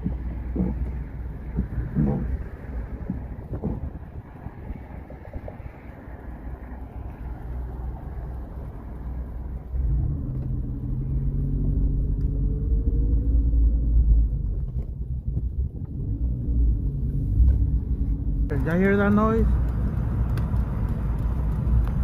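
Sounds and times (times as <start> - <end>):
car engine accelerating: 0.0 - 22.0
road rumble: 0.0 - 22.0.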